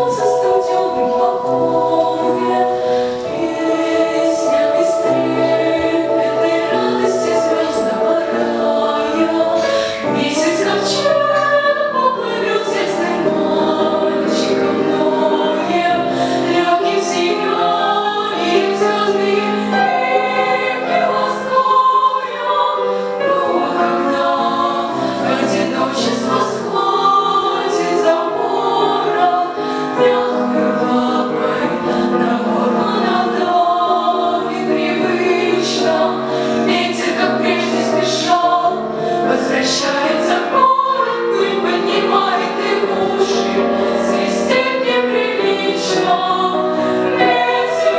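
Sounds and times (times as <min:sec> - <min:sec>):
girls' choir singing: 0:00.0 - 0:47.9
piano accompaniment: 0:00.0 - 0:47.9.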